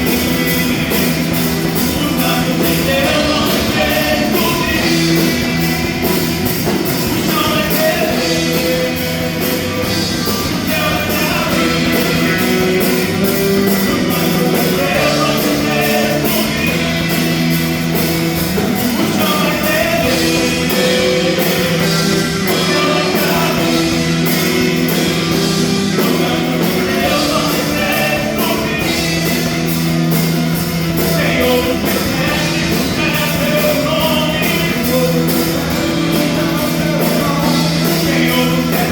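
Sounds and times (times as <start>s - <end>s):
worship rock band music: 0.0s - 38.9s.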